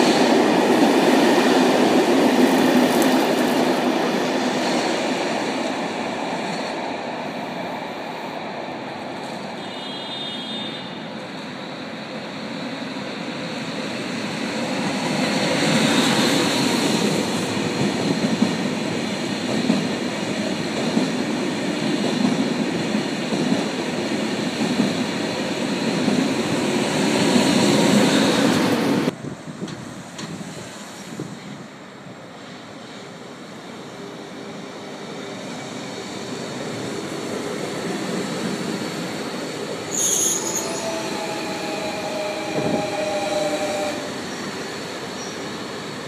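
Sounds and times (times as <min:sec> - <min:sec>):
train passing at speed: 0:00.0 - 0:46.0.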